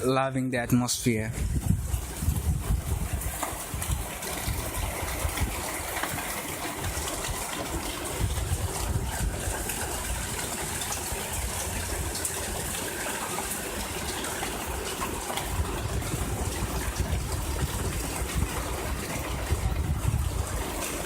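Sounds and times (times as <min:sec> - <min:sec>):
steady rain falling: 0:01.6 - 0:21.0.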